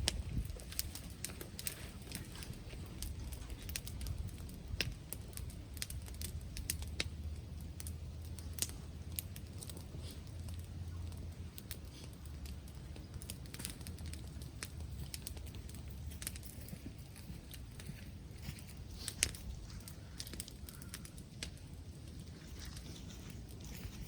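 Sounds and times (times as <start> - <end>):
wind rumble on microphone: 0.0 - 24.0
wood bonfire crackling: 0.0 - 24.0.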